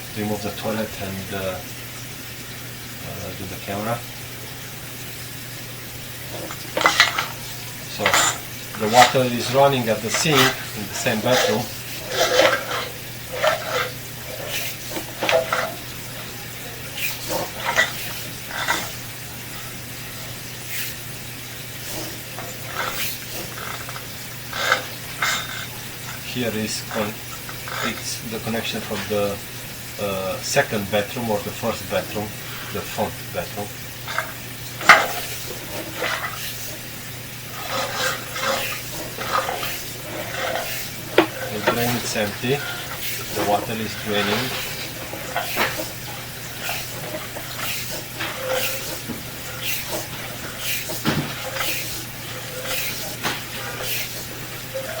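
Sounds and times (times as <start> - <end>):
water running into drain: 0.0 - 55.0.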